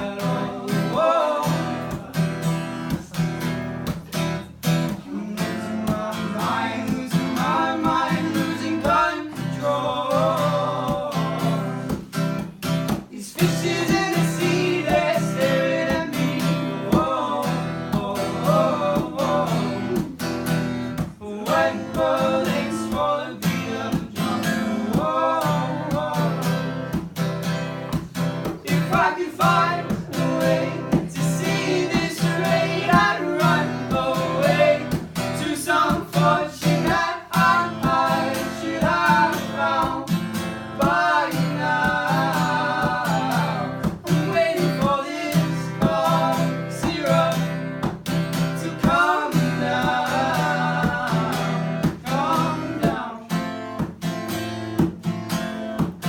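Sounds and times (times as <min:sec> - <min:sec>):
person singing: 0:00.0 - 0:03.2, 0:05.0 - 0:12.1, 0:13.1 - 0:20.2, 0:21.2 - 0:26.8, 0:28.6 - 0:40.2, 0:40.8 - 0:47.6, 0:48.5 - 0:53.4
acoustic guitar strumming: 0:00.0 - 0:56.0.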